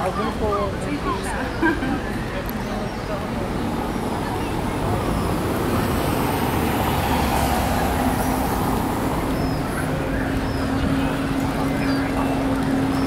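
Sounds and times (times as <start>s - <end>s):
passing cars tyre noise: 1.6s - 13.0s.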